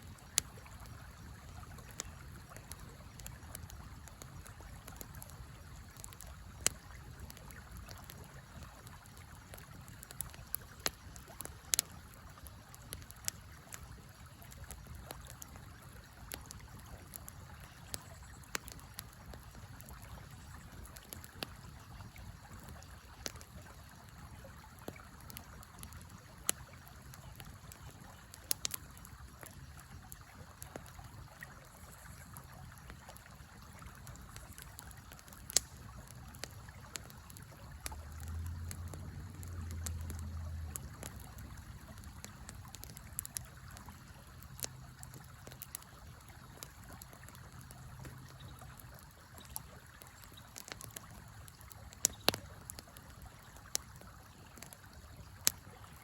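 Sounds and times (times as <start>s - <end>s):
campfire popping and snapping: 0.0s - 56.0s.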